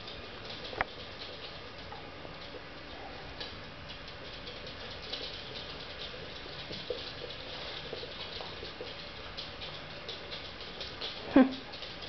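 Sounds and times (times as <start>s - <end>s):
puppy claws clicking on wooden floor: 0.0s - 12.0s.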